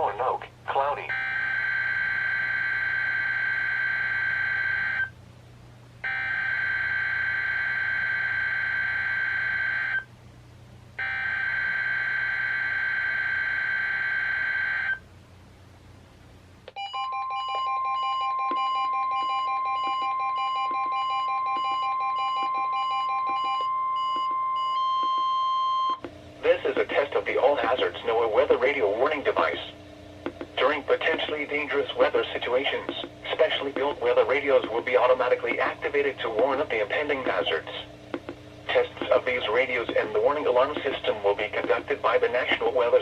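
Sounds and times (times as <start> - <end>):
steady warning alarm tone: 1.1 - 5.1, 6.0 - 10.1, 11.0 - 15.0, 16.8 - 43.0.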